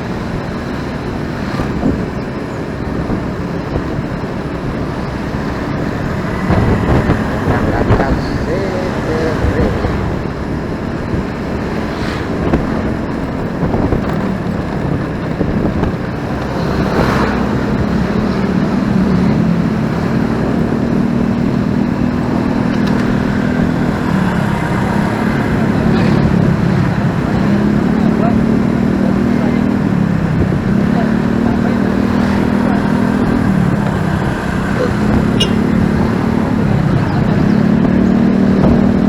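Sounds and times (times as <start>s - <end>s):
motorcycle engine running: 0.0s - 39.0s
road traffic: 0.0s - 39.0s
vehicle passing: 0.0s - 39.0s
wind noise on microphone: 0.0s - 39.0s.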